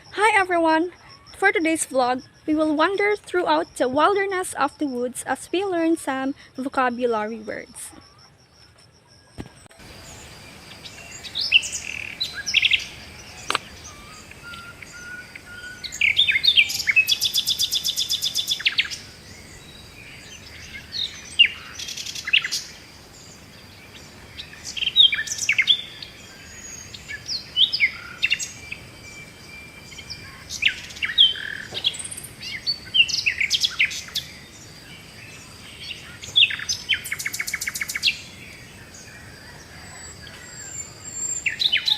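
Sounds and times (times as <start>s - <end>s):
woodland birds chirping: 0.7s - 41.9s.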